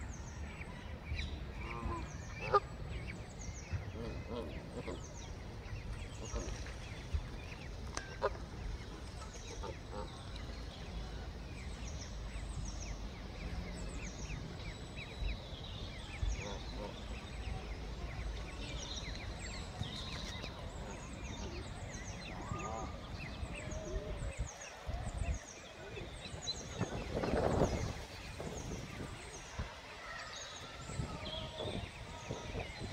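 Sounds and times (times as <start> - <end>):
goslings and ducklings peeping: 0.2 - 32.9.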